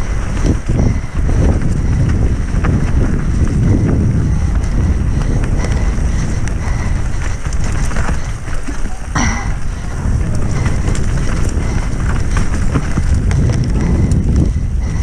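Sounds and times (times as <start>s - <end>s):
tyre and trail noise: 0.0s - 15.0s
wind buffeting microphone: 0.0s - 15.0s.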